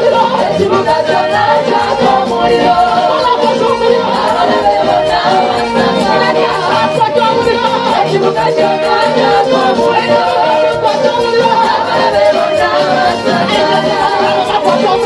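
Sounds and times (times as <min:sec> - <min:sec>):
band with drum beat: 0:00.0 - 0:15.0
voices singing together: 0:00.0 - 0:15.0.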